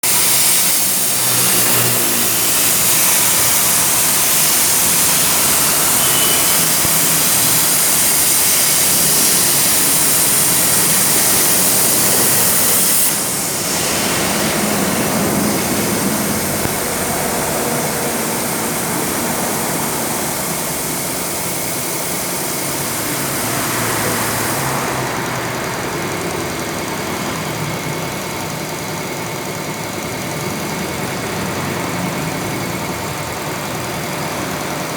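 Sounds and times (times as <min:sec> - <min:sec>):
metal cutting machine hissing: 0:00.0 - 0:34.9.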